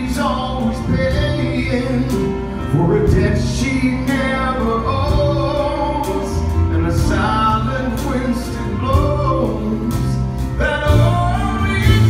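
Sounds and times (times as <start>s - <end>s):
man singing: 0.0s - 12.0s
rock band playing: 0.0s - 12.0s.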